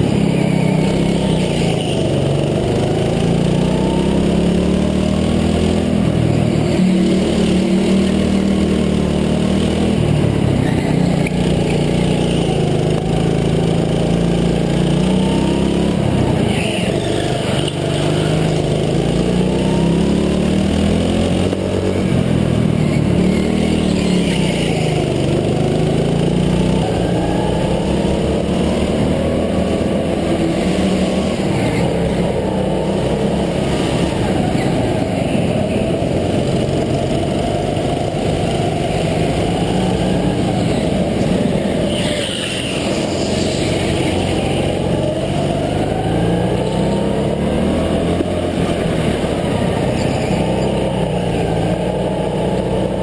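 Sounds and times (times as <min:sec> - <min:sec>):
go-kart engine revving: 0:00.0 - 0:53.0.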